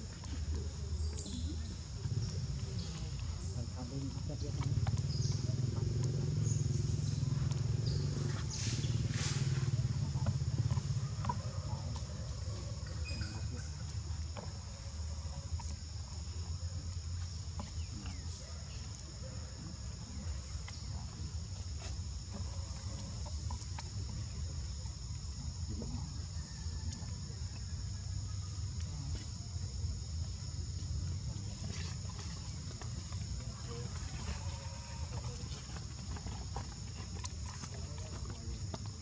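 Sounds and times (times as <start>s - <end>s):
insect chorus drone: 0.0s - 39.0s.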